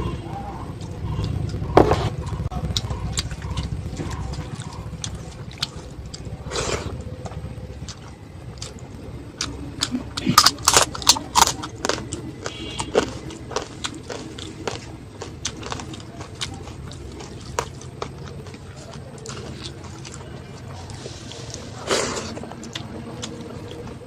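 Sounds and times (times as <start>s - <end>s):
low steady hum: 0.0s - 24.0s
crunchy chewing: 0.2s - 24.0s.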